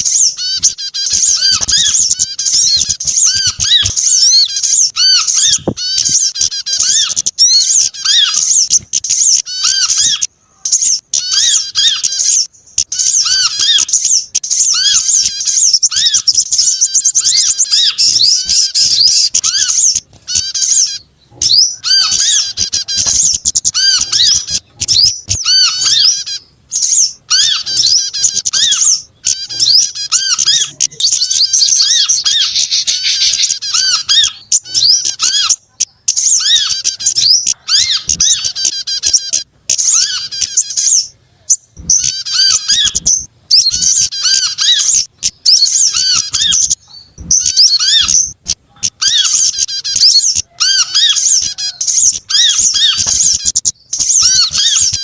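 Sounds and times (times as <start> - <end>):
low bird chip: 0.0 - 55.0
songbirds twittering: 0.0 - 55.0.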